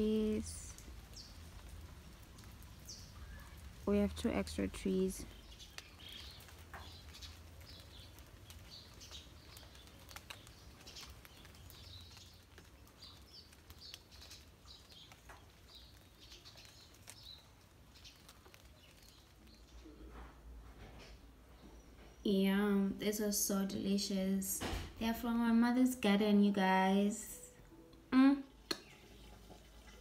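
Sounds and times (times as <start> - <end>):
faint small birds chirping: 0.0 - 27.6.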